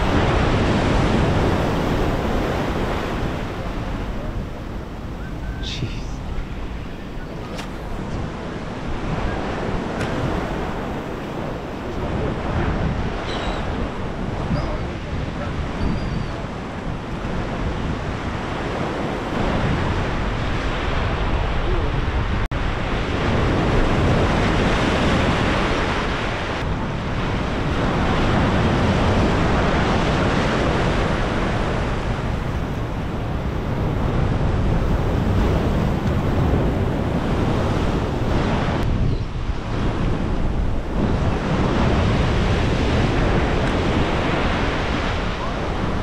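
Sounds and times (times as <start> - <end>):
surf breaking around pilings: 0.0 - 46.0
wind buffeting microphone: 0.0 - 46.0.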